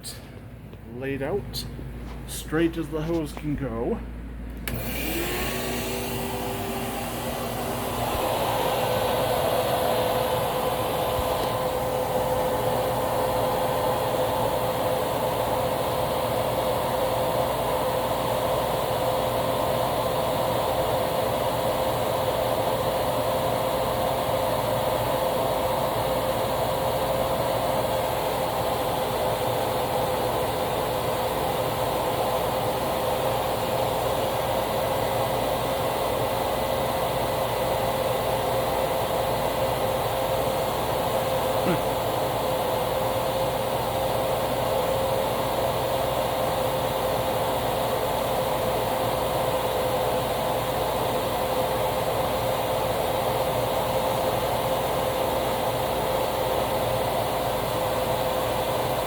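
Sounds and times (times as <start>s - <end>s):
vacuum cleaner motor running: 4.5s - 59.0s.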